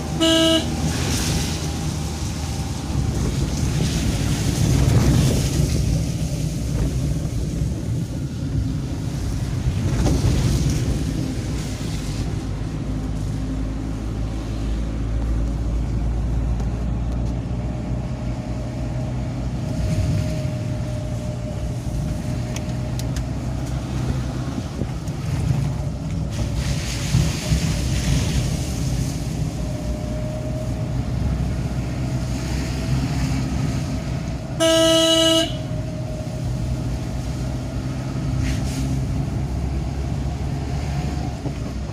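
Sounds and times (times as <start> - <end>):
car engine and road drone: 0.0 - 41.9.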